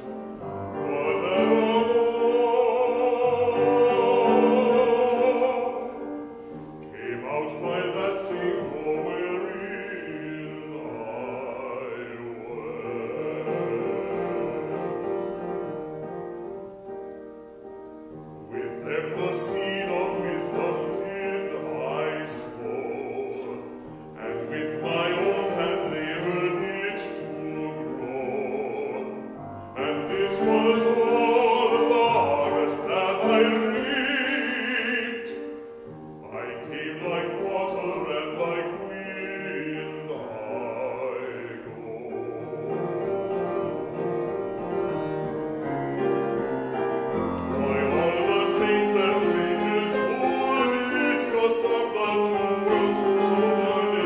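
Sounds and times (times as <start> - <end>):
piano accompaniment: 0.0 - 54.0.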